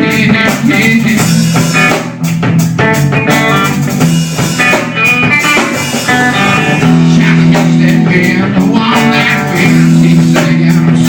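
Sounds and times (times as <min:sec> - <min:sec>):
electric guitar: 0:00.0 - 0:11.0
rock band playing: 0:00.0 - 0:11.0.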